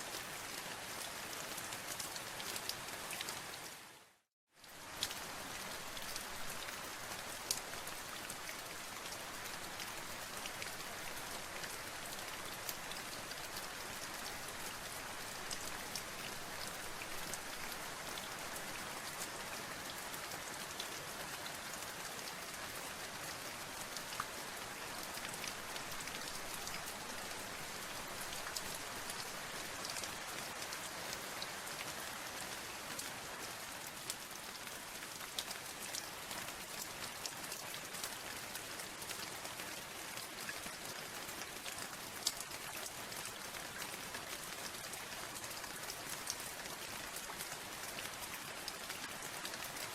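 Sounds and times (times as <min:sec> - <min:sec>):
rain drops pattering on hard surface: 0:04.6 - 0:49.9.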